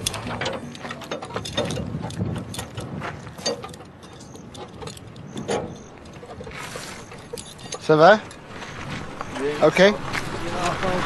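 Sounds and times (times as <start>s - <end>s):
hand tools clinking on metal: 0.0s - 9.9s.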